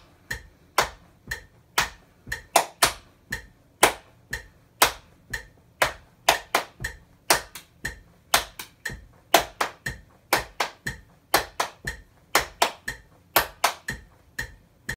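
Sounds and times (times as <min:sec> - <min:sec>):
hand claps in rhythm: 0:00.0 - 0:14.9.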